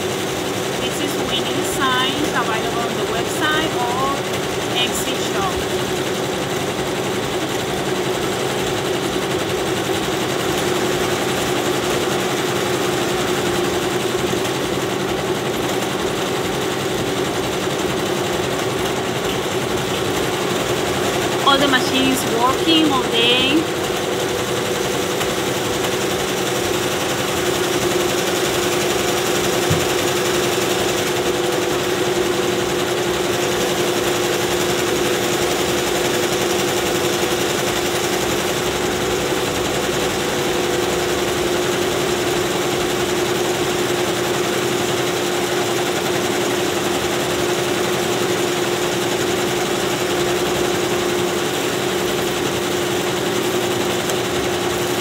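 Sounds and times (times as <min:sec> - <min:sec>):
machine hum: 0:00.0 - 0:55.0
embroidery machines clattering: 0:00.1 - 0:55.0.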